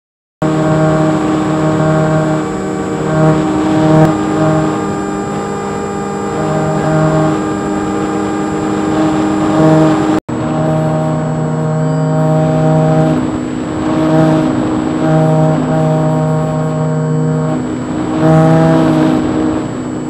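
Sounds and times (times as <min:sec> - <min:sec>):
electric motor and propeller droning: 0:00.4 - 0:20.0.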